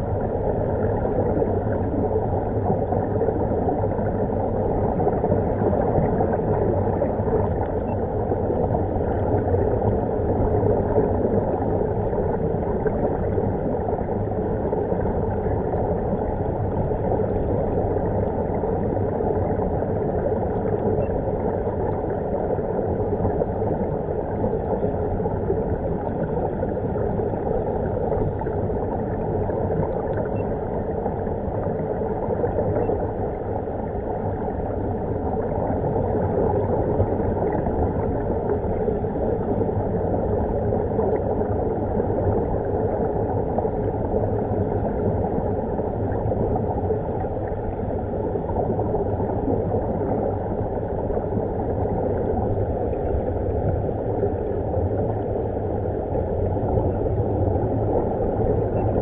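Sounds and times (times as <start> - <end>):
air bubbles gurgling underwater: 0.0 - 59.0.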